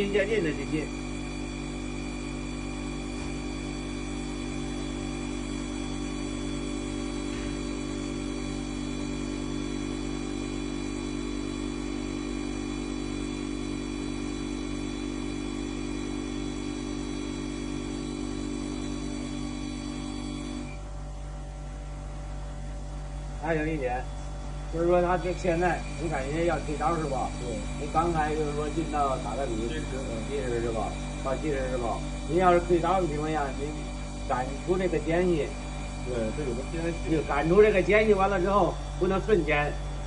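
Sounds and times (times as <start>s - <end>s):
grinding machine humming and whining: 0.0s - 40.0s.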